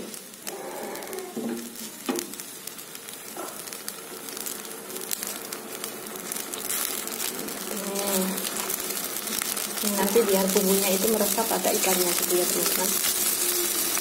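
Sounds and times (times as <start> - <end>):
broth bubbling in a pot: 0.0 - 14.0.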